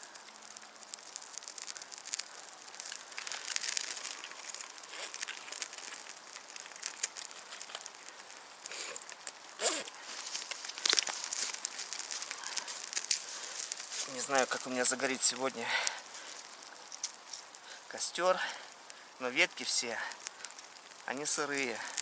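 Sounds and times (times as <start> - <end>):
small fire crackling: 0.0 - 22.0
twigs being handled: 0.0 - 22.0.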